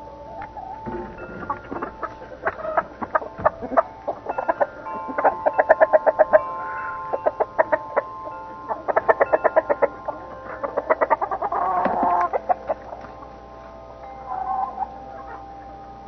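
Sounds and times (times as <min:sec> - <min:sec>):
chickens clucking: 0:00.0 - 0:16.0
steady ringing tone: 0:00.0 - 0:16.0.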